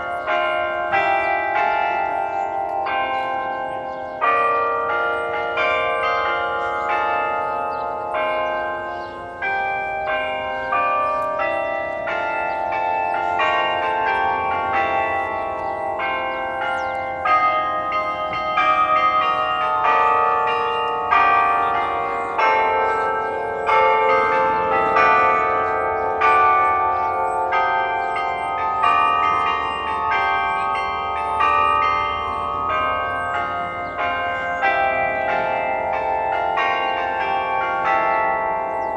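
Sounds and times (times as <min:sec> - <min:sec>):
musical clock bell tones: 0:00.0 - 0:38.9.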